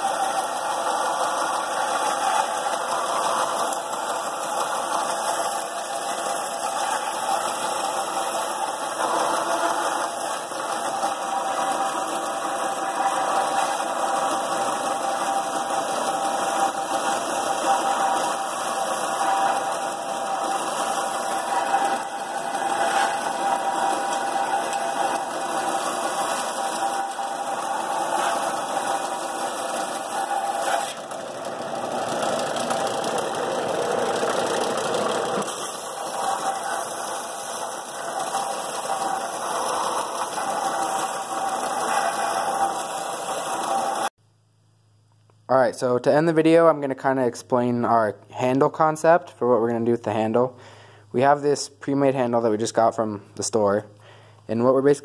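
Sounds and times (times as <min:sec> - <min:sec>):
power sander on steel: 0:00.0 - 0:44.1.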